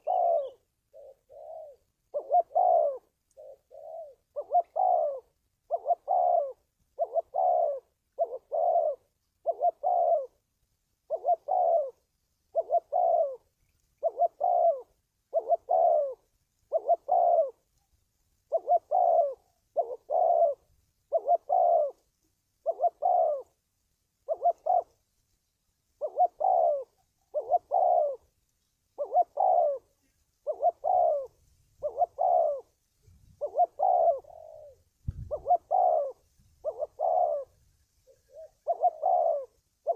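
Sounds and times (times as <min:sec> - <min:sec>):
dove cooing: 0:00.0 - 0:25.1, 0:25.9 - 0:39.9.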